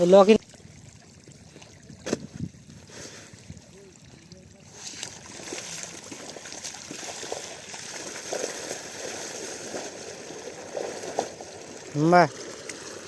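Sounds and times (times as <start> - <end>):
water rushing from pipe: 0.0 - 13.0.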